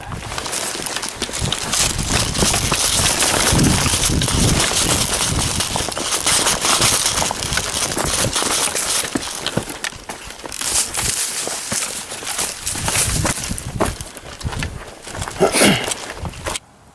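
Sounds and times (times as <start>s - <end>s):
footsteps: 0.0s - 16.6s
rustling of clothing and brush: 0.0s - 16.6s
small cracks and clicks: 0.2s - 16.6s.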